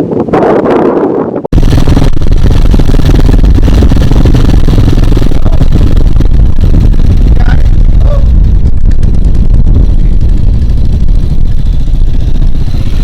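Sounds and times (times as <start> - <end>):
wind buffeting microphone: 0.0 - 13.0
dirt bike engine running: 1.5 - 13.0.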